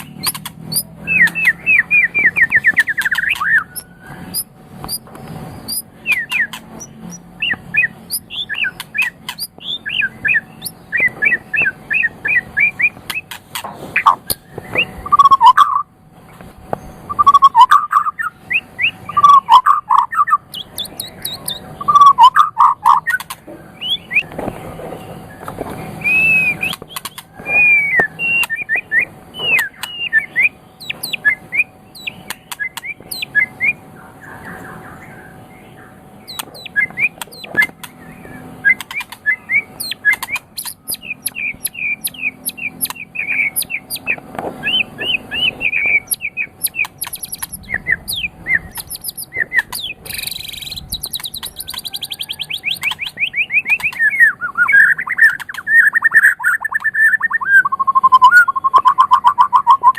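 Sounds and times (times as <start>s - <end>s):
bird singing whistled phrases: 0.1s - 4.5s, 5.6s - 13.2s, 14.3s - 15.8s, 17.1s - 23.2s, 23.8s - 24.3s, 26.0s - 33.8s, 36.3s - 59.9s.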